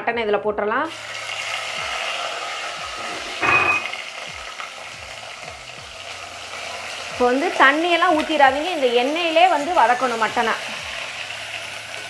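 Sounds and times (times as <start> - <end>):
meat sizzling in hot oil: 0.9 - 12.0.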